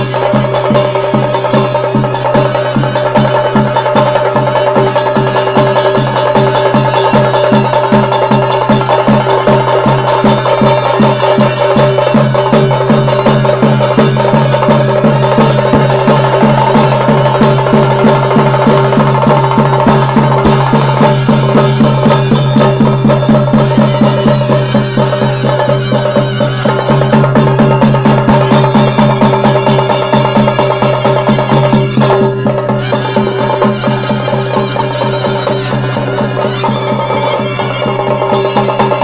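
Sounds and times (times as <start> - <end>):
drums beaten with sticks: 0.0 - 39.0.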